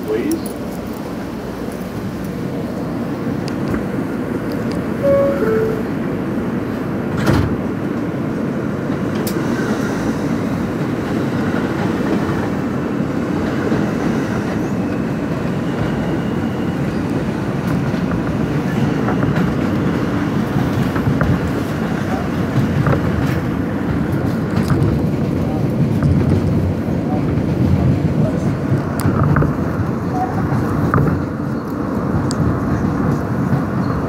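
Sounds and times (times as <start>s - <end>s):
passing subway train: 0.0s - 34.0s
subway wheels rumbling on rail: 0.0s - 34.0s.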